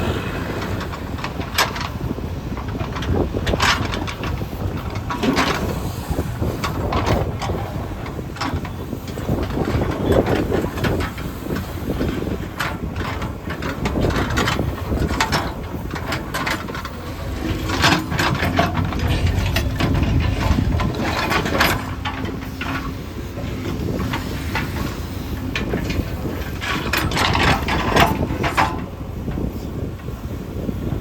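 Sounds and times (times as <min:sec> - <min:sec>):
clanks and scraping knocks: 0:00.0 - 0:30.1
diesel engine running: 0:00.0 - 0:30.1.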